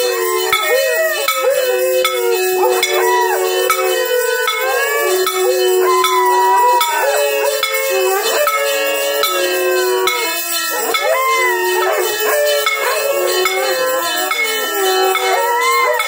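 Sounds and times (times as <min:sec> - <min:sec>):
bells ringing: 0:00.0 - 0:16.0
dogs howling: 0:00.0 - 0:16.0.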